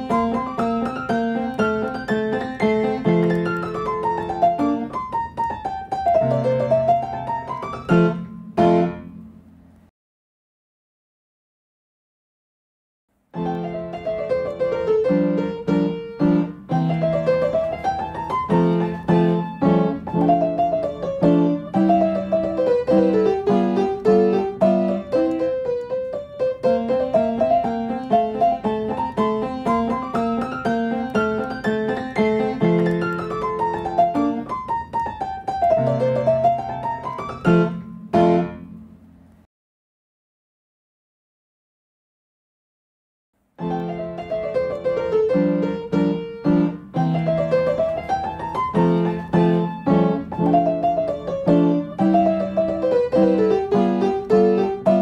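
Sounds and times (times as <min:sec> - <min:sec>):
piano music with running notes: 0:00.0 - 0:09.6, 0:13.1 - 0:39.4, 0:43.6 - 0:55.0.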